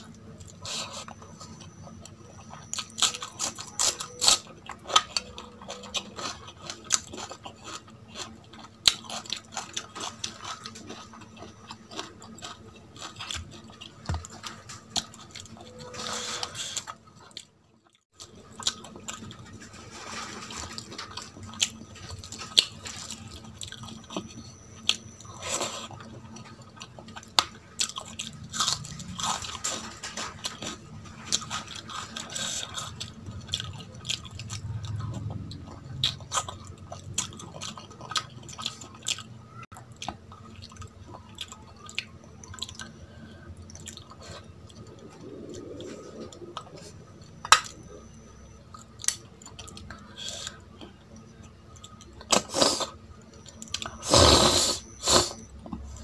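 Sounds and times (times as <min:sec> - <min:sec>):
person chewing: 0:00.0 - 0:17.5, 0:18.2 - 0:56.0.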